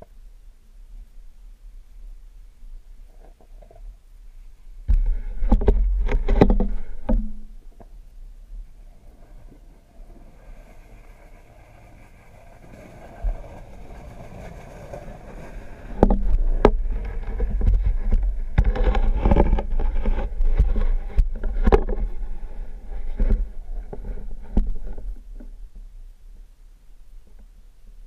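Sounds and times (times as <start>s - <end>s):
low watery rumble: 0.0s - 28.0s
quiet hum: 0.0s - 28.0s.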